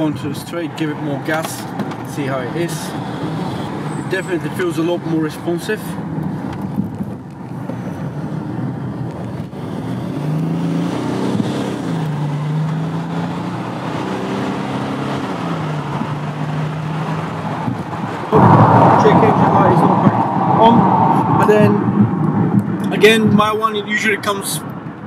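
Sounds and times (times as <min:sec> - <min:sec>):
diesel engine drone: 0:00.0 - 0:23.3
road noise: 0:00.0 - 0:25.0.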